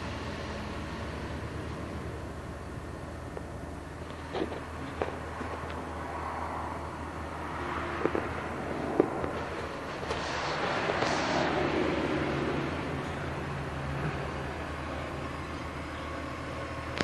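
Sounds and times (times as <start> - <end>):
passing traffic: 0.0 - 17.0
truck engine humming: 0.0 - 17.0.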